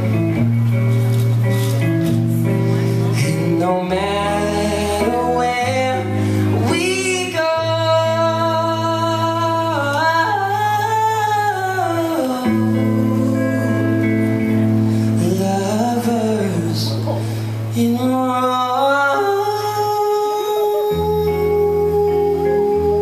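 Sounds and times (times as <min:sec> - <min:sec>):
live band playing pop song: 0:00.0 - 0:23.0.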